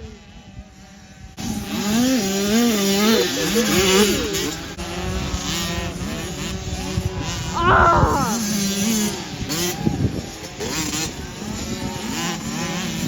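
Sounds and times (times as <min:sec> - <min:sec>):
motocross bike engines revving: 0:00.2 - 0:13.0.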